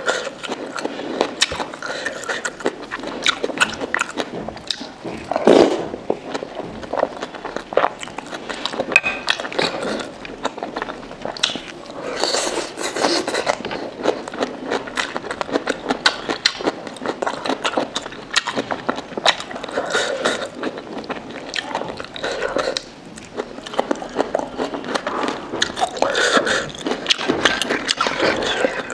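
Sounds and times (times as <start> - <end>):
wet chewing and lip smacks: 0.1 - 5.5, 6.1 - 28.9.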